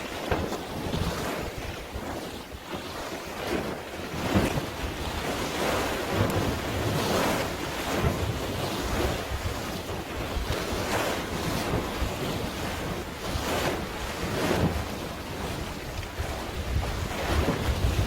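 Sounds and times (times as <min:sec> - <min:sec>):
sea waves washing: 0:00.0 - 0:18.0
wind rumbling on microphone: 0:00.0 - 0:18.0.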